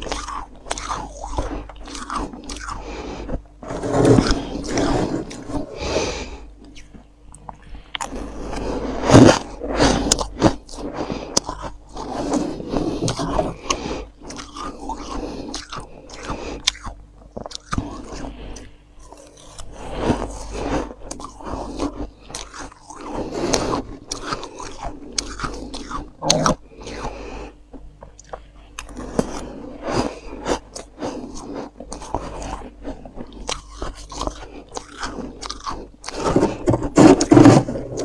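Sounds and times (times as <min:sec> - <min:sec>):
frost crunching and chewing: 0:00.0 - 0:38.0.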